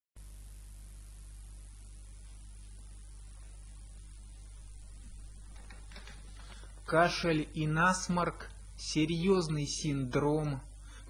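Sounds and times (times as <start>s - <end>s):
background hiss: 0.2s - 11.0s
faint electrical mains hum: 0.2s - 11.0s.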